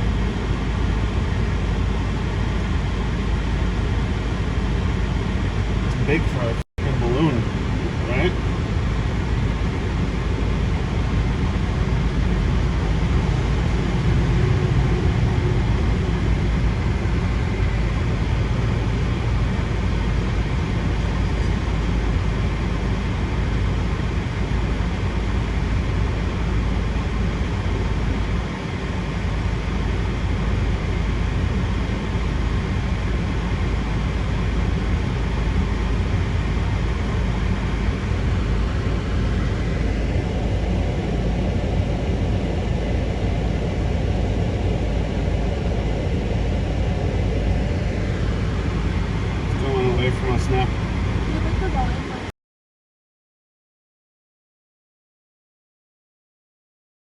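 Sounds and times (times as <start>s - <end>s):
car cabin rumble and hiss: 0.0s - 52.3s.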